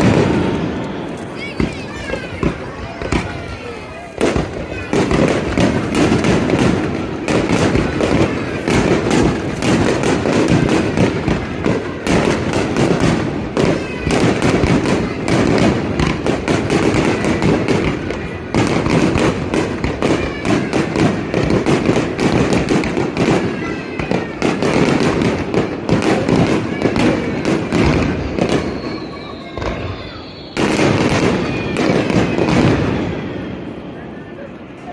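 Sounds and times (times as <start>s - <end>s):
fireworks bursting and crackling: 0.0s - 34.9s.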